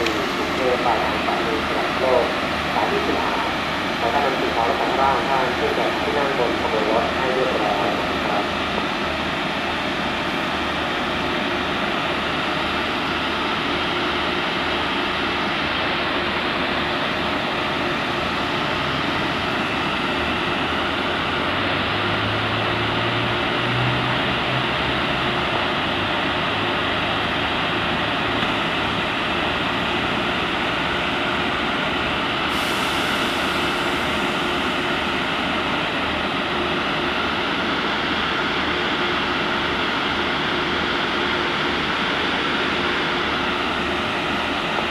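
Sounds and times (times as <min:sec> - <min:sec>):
train engine hum and whine: 0:00.0 - 0:44.9.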